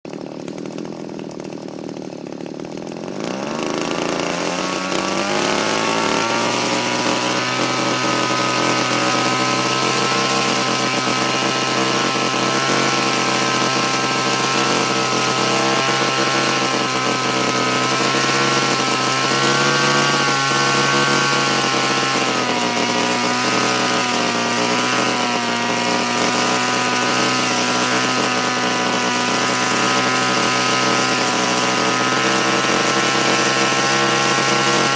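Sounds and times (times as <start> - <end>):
small petrol engine running: 0.0 - 34.9.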